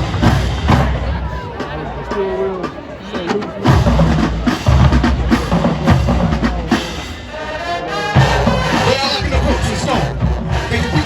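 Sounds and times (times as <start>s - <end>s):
snare drums: 0.0s - 7.4s, 8.0s - 11.0s.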